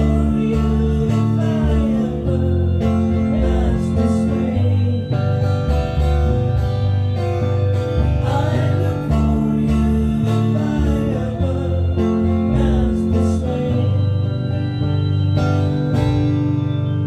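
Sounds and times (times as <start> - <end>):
acoustic guitar country music: 0.0 - 17.0.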